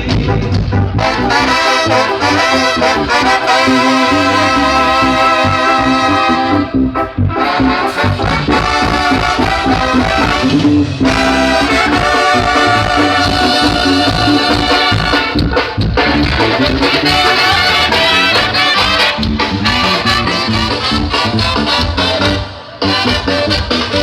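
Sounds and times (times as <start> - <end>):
drums bass and percussion: 0.0 - 24.0
brass lines: 0.9 - 24.0.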